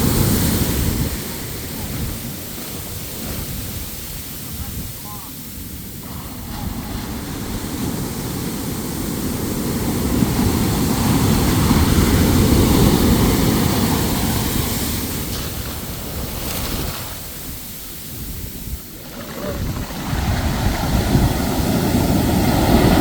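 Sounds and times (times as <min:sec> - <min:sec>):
ocean waves breaking: 0:00.0 - 0:23.0.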